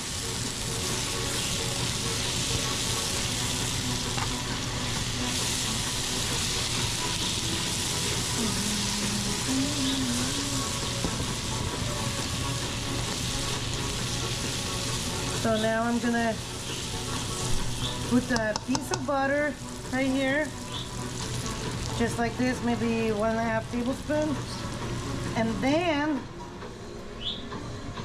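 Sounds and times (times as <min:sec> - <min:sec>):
vegetables sizzling in oil: 0:00.0 - 0:26.2.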